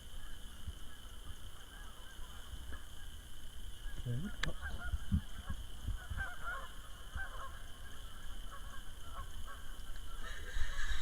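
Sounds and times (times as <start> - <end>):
waterfowl calling: 0.2 - 11.0.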